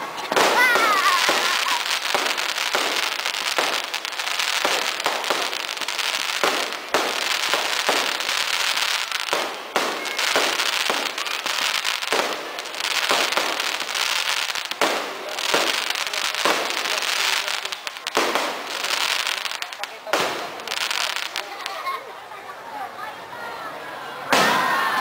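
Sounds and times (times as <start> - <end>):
fireworks crackling and popping: 0.0 - 22.1, 24.3 - 24.7.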